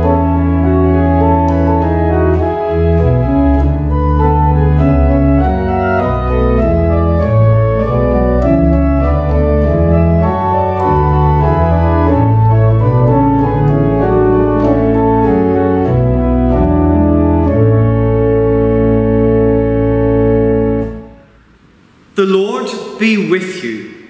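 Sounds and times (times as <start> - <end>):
church organ playing chords: 0.0 - 24.0.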